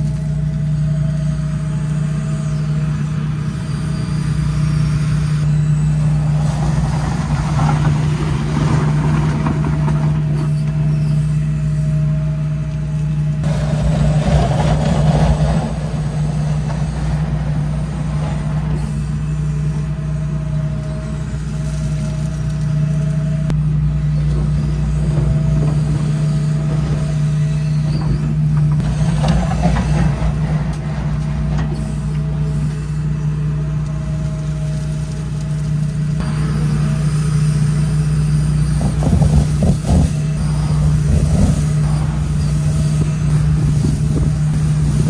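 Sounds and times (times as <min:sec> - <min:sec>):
diesel engine under load: 0:00.0 - 0:45.0
hydraulic whine: 0:00.0 - 0:45.0.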